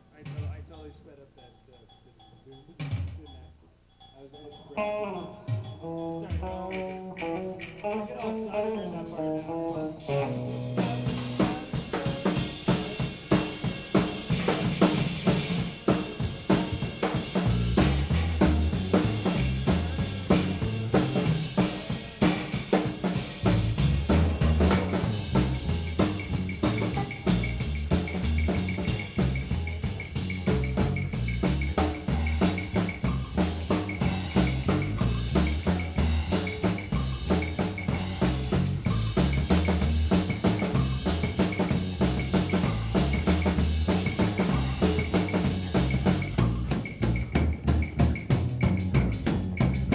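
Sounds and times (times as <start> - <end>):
drum kit playing steady beat: 0.0 - 49.9
bass line: 4.8 - 49.9.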